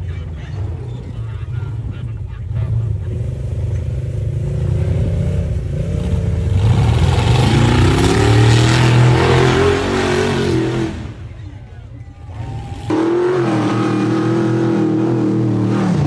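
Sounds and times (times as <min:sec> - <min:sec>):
engine revving: 0:00.0 - 0:11.4, 0:12.2 - 0:16.0.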